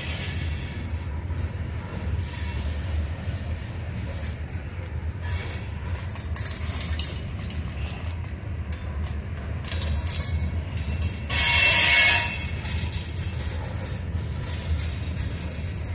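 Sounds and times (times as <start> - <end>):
clicking and rattling: 0.0 - 11.3, 12.4 - 15.9
train wheels rumbling on rail: 0.0 - 15.9.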